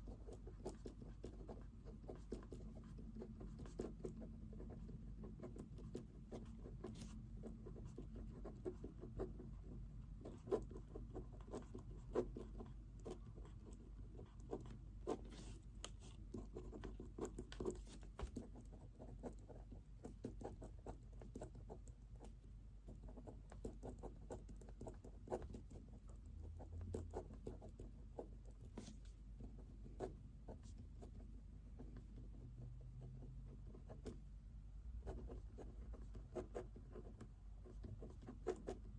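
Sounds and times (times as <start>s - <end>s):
pen writing on paper: 0.0s - 31.2s, 35.0s - 38.9s
faint room hum: 0.0s - 38.9s.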